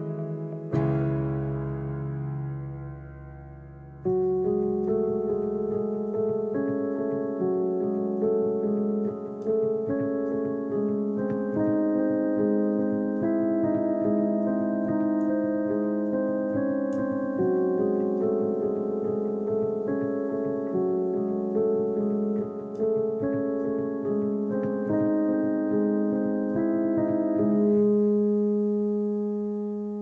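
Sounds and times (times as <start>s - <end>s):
slow piano chords: 0.0s - 30.0s.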